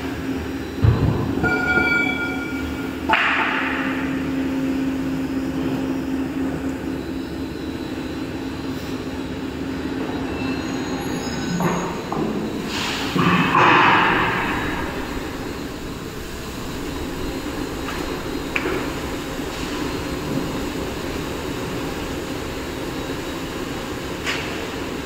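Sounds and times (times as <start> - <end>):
crane electric hum: 0.0 - 25.0.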